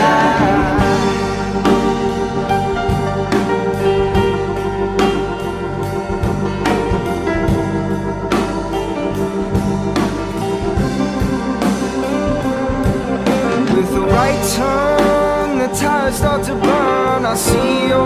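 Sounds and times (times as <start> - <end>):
organ-like keyboard chords: 0.0 - 18.0
steady drum beat: 0.0 - 18.0.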